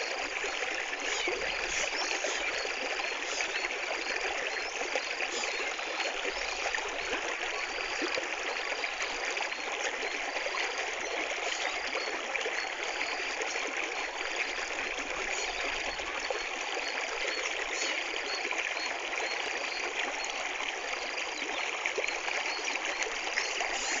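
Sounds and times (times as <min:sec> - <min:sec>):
water flowing in a stream: 0:00.0 - 0:24.0.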